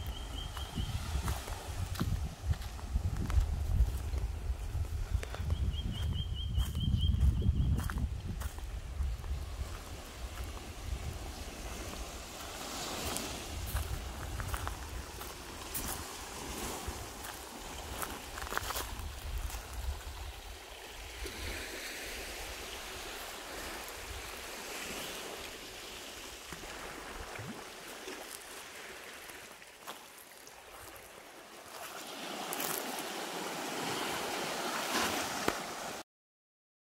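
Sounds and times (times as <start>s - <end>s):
rushing water: 0.0s - 4.7s, 8.9s - 36.0s.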